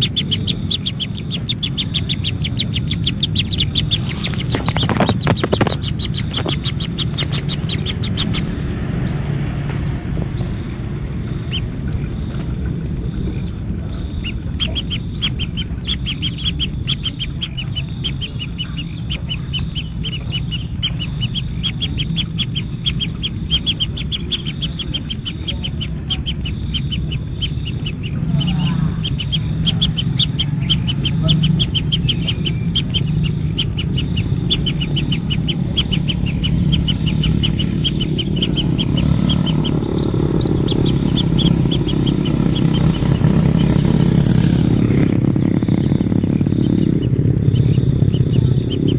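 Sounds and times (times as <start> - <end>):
birds chirping: 0.0 - 48.9
high insect drone: 0.0 - 48.9.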